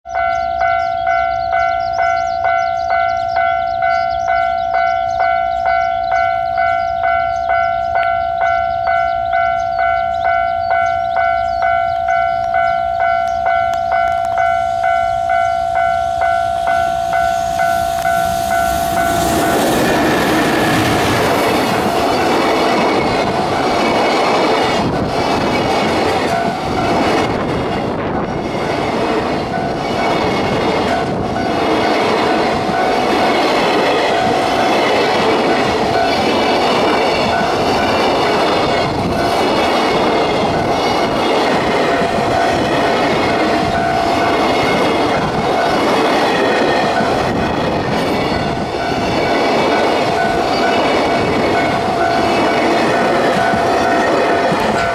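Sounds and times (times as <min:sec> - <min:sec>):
level-crossing warning bell: 0:00.0 - 0:54.9
train wheels rumbling and clattering: 0:00.3 - 0:54.9.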